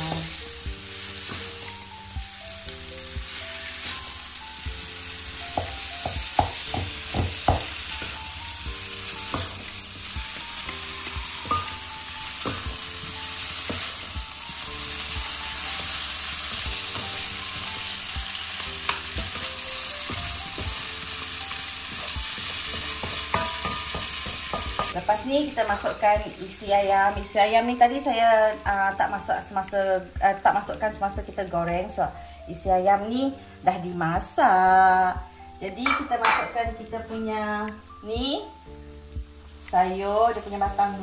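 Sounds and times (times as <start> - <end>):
noodles sizzling in a pan: 0.0 - 41.0.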